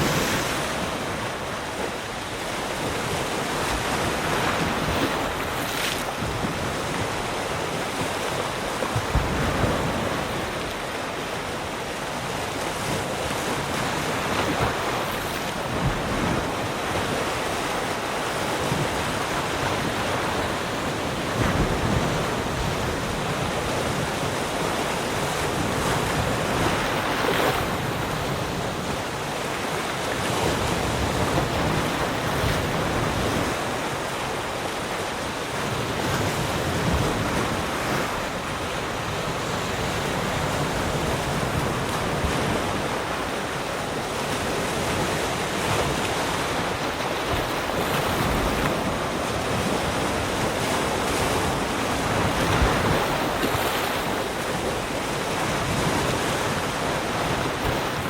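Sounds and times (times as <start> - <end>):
wind on microphone: 0.0 - 11.2, 12.2 - 58.0
waves breaking on shore: 0.0 - 58.0.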